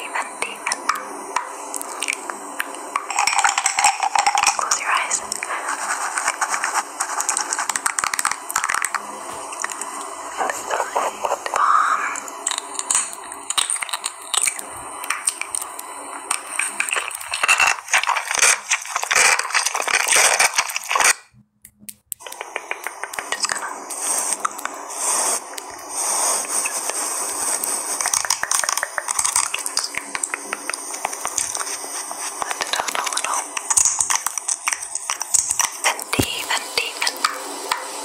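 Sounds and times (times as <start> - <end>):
crisp clicks and crackles: 0.4 - 21.2, 21.8 - 24.8, 25.5 - 37.9.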